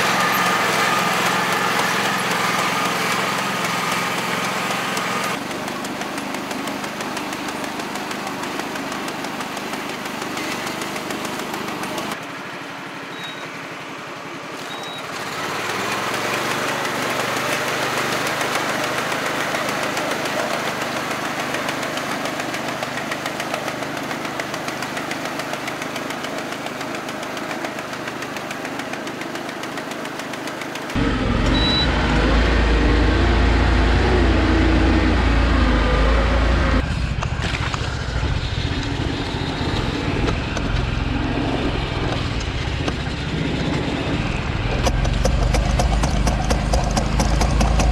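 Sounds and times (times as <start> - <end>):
rice transplanter engine rumbling: 0.0 - 13.4, 14.6 - 47.9.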